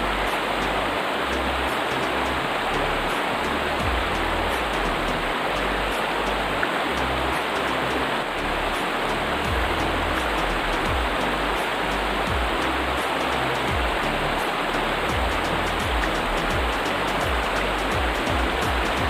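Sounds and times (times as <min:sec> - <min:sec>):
background music with bass line: 0:00.0 - 0:19.0.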